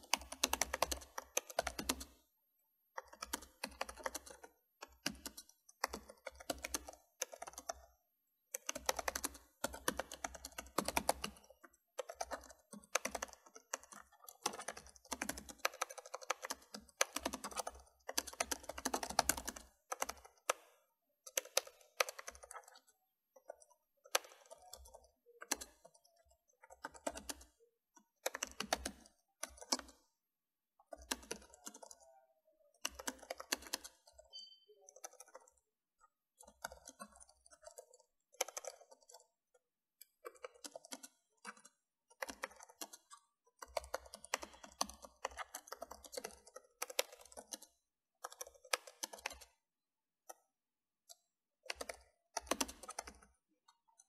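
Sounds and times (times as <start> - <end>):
computer keyboard typing: 0.0 - 2.3, 2.9 - 30.2, 30.8 - 54.0.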